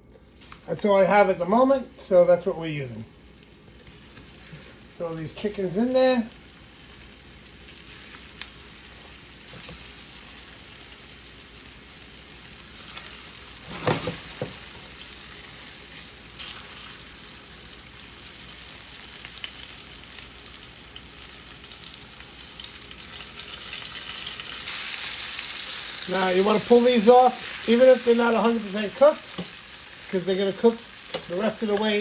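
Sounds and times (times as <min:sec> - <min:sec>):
chicken sizzling in oil: 0:00.2 - 0:32.0.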